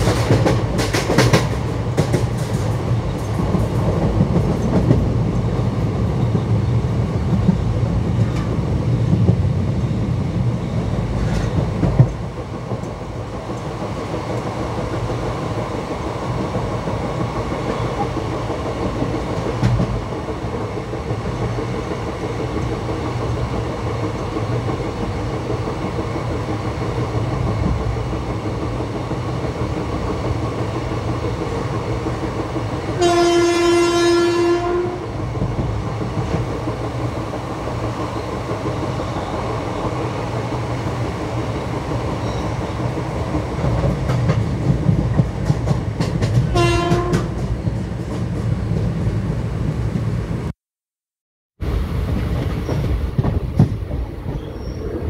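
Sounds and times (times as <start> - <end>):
train wheels rumbling on rails: 0.0 - 50.5, 51.6 - 55.0.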